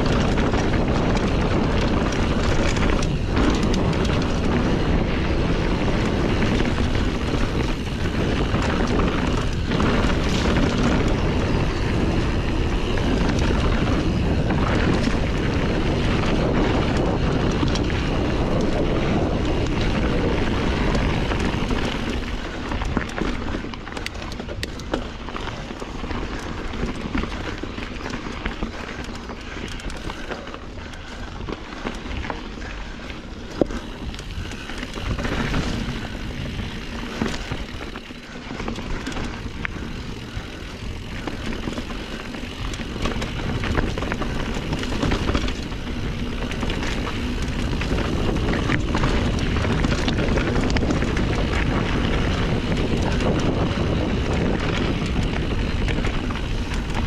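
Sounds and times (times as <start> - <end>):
bike rattling and knocking: 0.0 - 57.0
bike tyre noise: 0.0 - 57.0
wind rumbling on microphone: 0.0 - 57.0.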